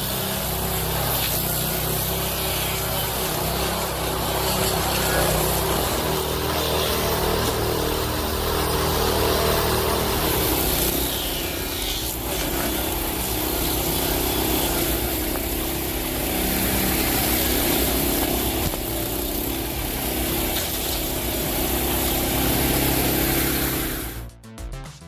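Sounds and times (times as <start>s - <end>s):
engine-driven machine running: 0.0s - 24.3s.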